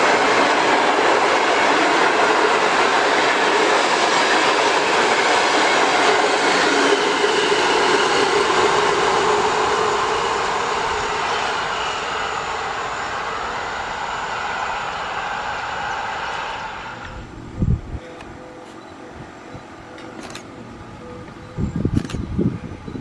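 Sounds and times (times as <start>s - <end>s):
train wheels rolling on rails: 0.0s - 23.0s.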